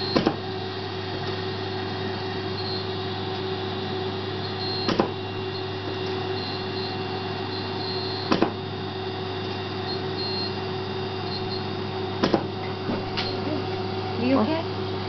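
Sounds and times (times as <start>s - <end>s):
welding machine humming: 0.0s - 15.0s.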